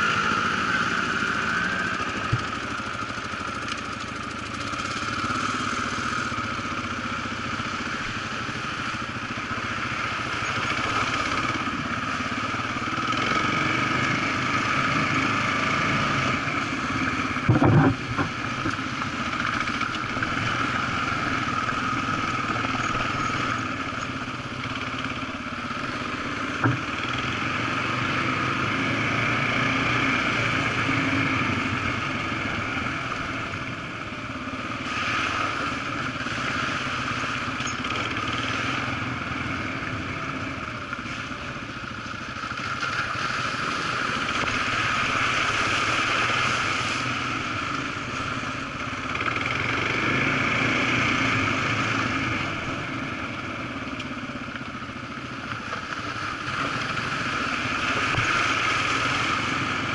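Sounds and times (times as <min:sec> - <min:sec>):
off-road motorcycle engine: 0:00.0 - 0:59.9.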